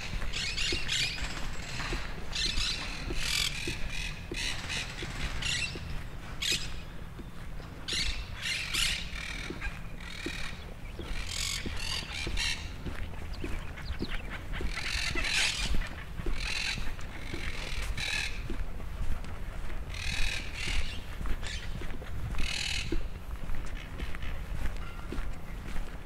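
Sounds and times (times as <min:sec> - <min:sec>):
steady low rumble: 0:00.0 - 0:24.8
birds squawking: 0:00.0 - 0:25.7
faint footsteps: 0:00.0 - 0:26.0.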